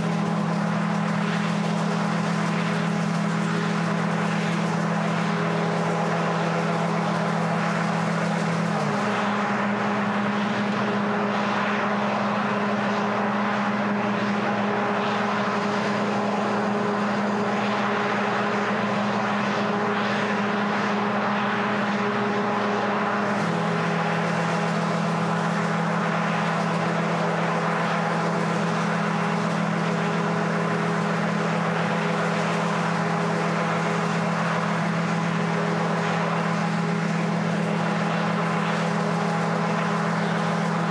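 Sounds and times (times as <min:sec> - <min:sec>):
machine hum: 0:00.0 - 0:40.9.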